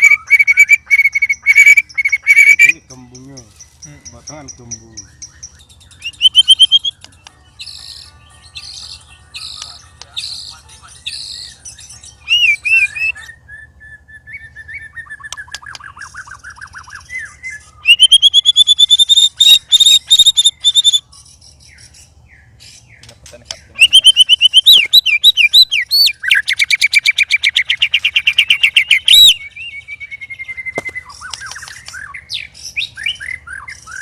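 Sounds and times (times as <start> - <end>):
bird singing varied song: 0.0 - 34.0.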